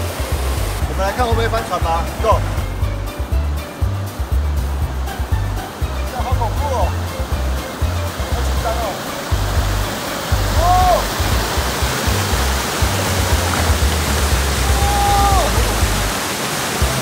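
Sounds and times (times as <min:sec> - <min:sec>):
background music: 0:00.0 - 0:17.0
rushing white water: 0:00.0 - 0:17.0.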